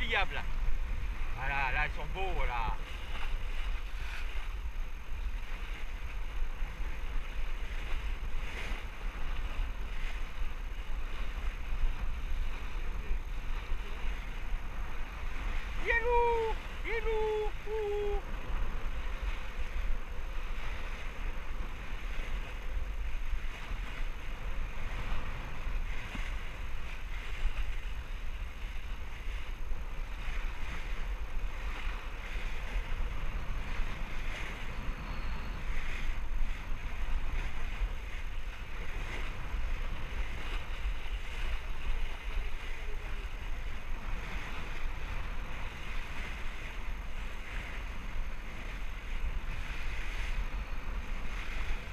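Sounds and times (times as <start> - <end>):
bow wave rushing and splashing: 0.0 - 51.9
wind buffeting microphone: 0.0 - 51.9.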